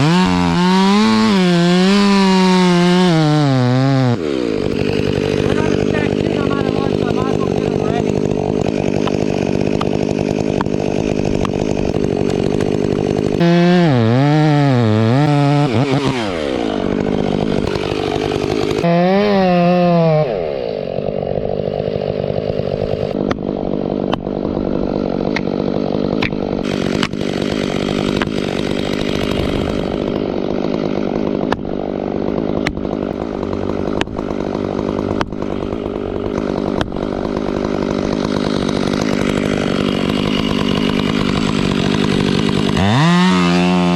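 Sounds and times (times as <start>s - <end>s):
chainsaw cutting: 0.0s - 43.9s.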